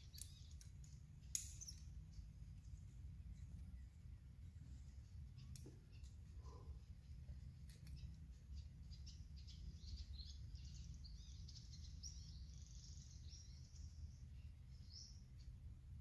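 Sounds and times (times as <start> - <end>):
faint bird song: 0.0 - 16.0
steady low rumble: 0.0 - 16.0.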